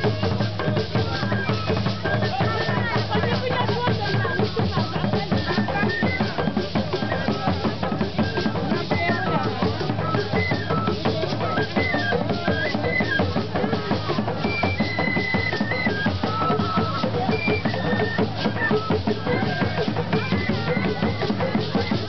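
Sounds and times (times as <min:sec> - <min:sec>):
drum ensemble playing fast rhythms: 0:00.0 - 0:22.0.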